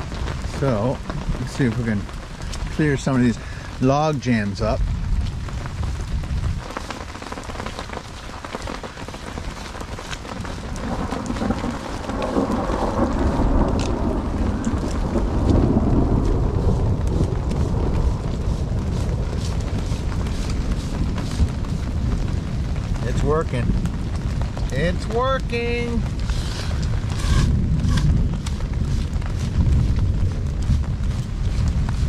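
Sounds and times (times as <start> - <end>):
rain on puddles: 0.0 - 32.0
rolling thunder: 0.0 - 32.0.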